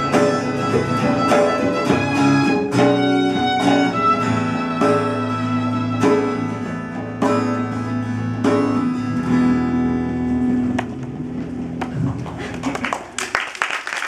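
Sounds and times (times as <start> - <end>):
strummed acoustic guitar: 0.0 - 12.6
cajon drum: 0.0 - 12.9
electric bass guitar: 0.0 - 12.9.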